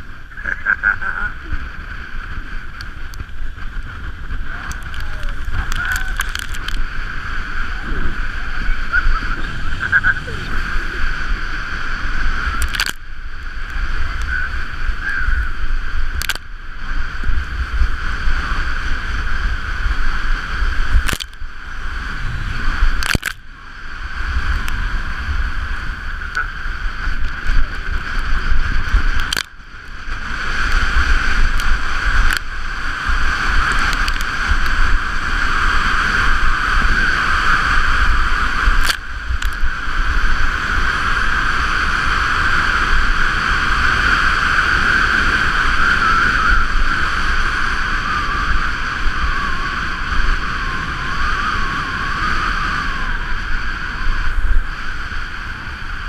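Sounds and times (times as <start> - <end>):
sled scraping over snow: 0.0 - 56.0
wind rushing over microphone: 0.0 - 56.0.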